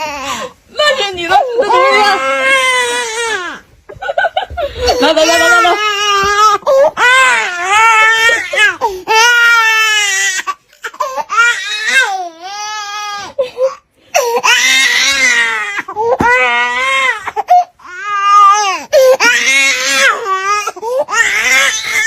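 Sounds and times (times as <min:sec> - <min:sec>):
baby crying: 0:01.3 - 0:03.6, 0:04.6 - 0:22.0.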